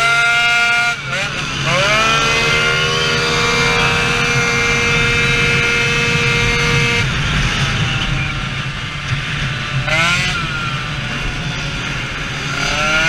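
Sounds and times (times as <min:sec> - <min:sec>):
scooter engine high-pitched wail: 0:00.0 - 0:13.0.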